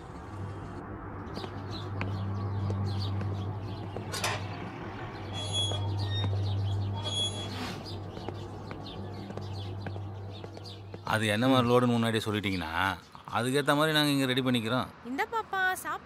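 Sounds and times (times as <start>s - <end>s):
birds chirping: 0.9s - 14.7s.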